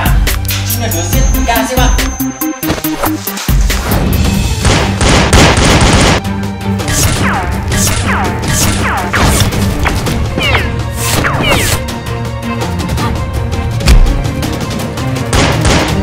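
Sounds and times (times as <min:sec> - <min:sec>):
soundtrack music with bass line: 0:00.0 - 0:16.0.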